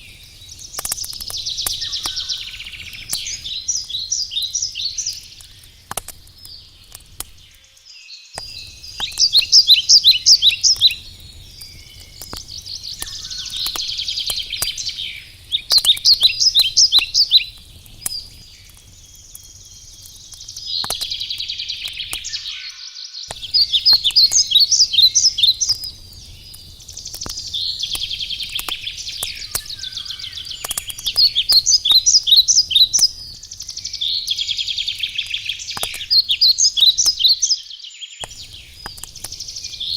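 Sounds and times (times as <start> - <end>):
campfire crackling and popping: 0.0 - 7.6, 8.3 - 39.9
songbirds singing trills: 0.0 - 39.9.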